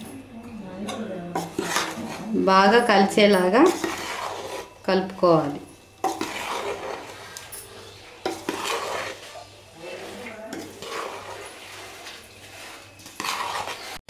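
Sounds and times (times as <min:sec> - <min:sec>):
spoon stirring puffed rice: 0:00.8 - 0:14.0.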